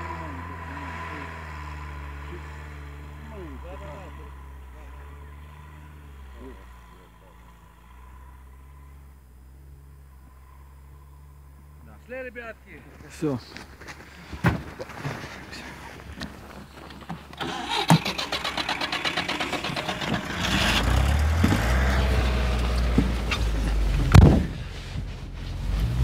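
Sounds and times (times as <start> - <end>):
van engine cranking and idling: 0.0 - 26.0.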